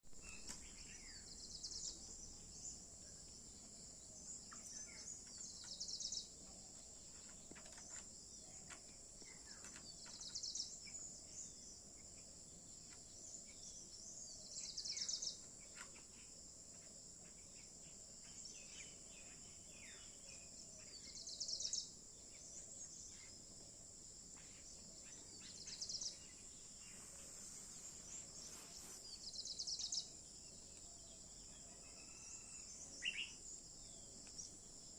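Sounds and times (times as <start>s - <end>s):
faint chirps of other birds: 0.0s - 34.9s.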